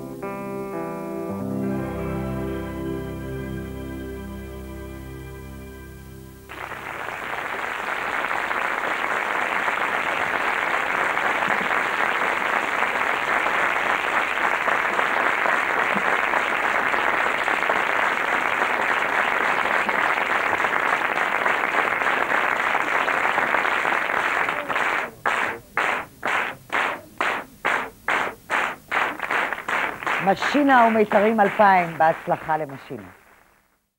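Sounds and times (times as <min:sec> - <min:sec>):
audience applauding: 0:06.5 - 0:33.8.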